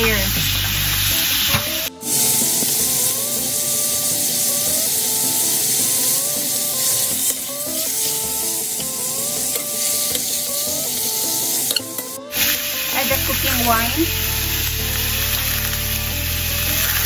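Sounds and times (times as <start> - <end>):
meat sizzling in hot oil: 0.0 - 17.0.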